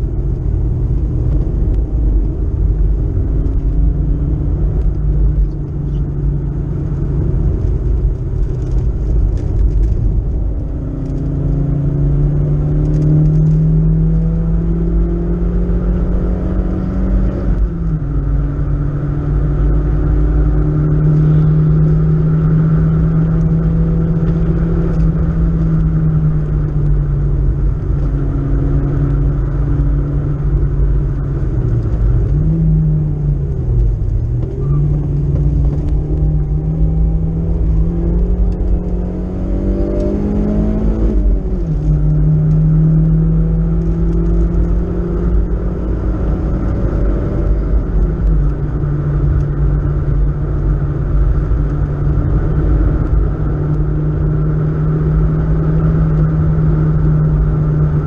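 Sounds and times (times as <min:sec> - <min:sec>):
car engine revving: 0:00.0 - 0:58.0
road and tyre rumble: 0:00.0 - 0:58.0.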